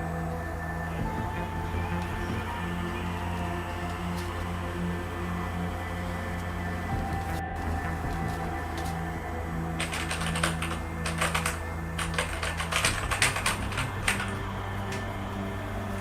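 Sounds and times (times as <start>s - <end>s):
background music: 0.0s - 16.0s
keyboard keys clattering: 0.0s - 16.0s.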